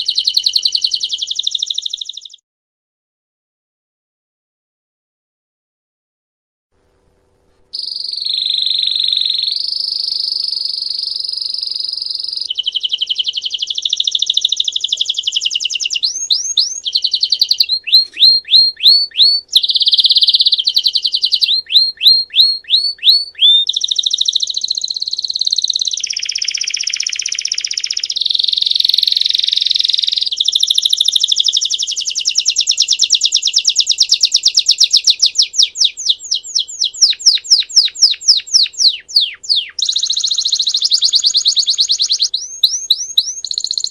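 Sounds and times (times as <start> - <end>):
canary singing trills: 0.0 - 2.4, 7.8 - 43.9.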